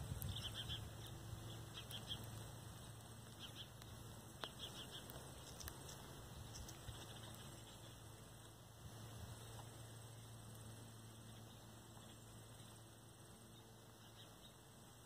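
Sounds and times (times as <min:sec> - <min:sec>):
light hiss: 0:00.0 - 0:15.0.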